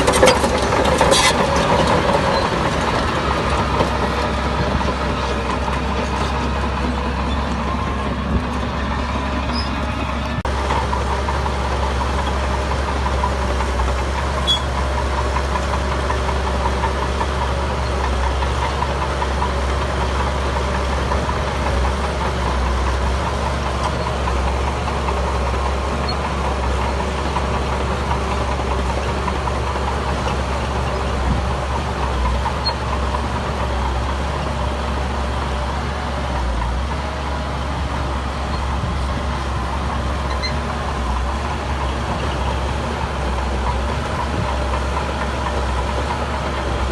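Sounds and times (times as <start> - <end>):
diesel engine deep rumble: 0.0 - 46.9.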